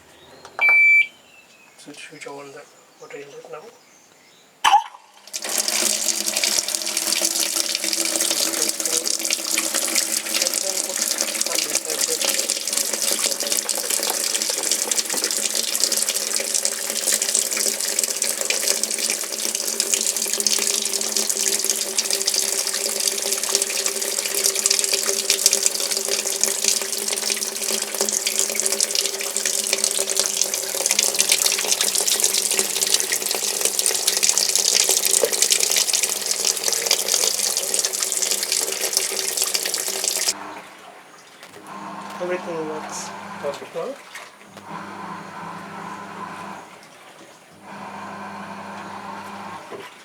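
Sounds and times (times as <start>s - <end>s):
water running into washing machine: 4.7s - 50.0s.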